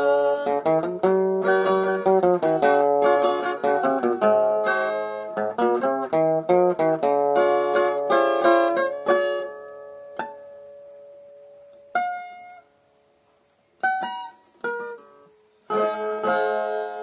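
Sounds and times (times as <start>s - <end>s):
plucked guitar notes: 0.0s - 11.1s, 13.8s - 17.0s.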